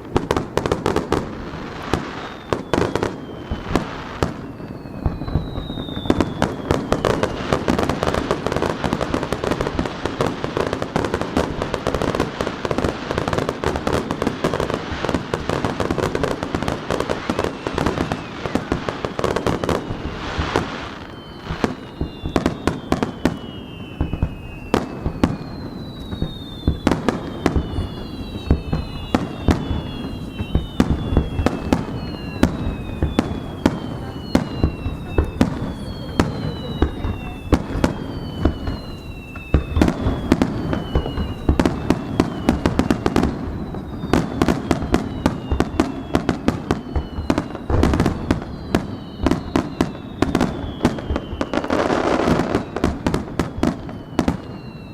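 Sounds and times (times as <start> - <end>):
firework bangs and crackling: 0.0 - 54.9
whistling fireworks falling in pitch: 0.0 - 54.9.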